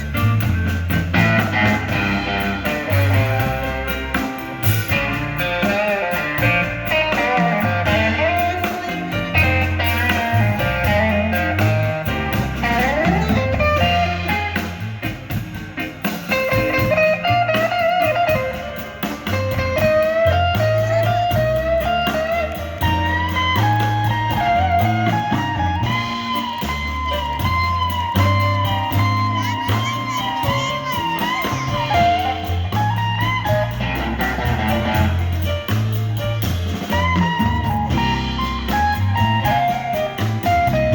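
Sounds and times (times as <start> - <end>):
blues band playing: 0.0 - 40.9
electric guitar lead: 0.0 - 40.9
walking bass line: 0.0 - 40.9.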